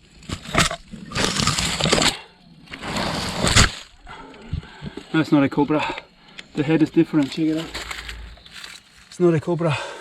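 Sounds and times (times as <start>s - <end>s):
dry leaves and twigs crunching: 0.0s - 9.7s.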